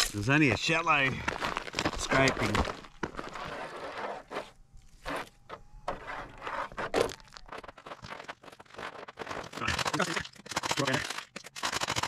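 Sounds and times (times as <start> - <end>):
rustling and scrapes on stones: 0.0 - 12.0.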